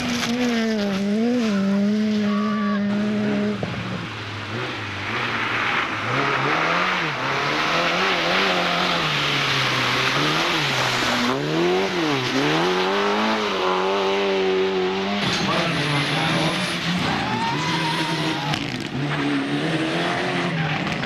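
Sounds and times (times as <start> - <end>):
racing car engine revving: 0.0 - 21.0.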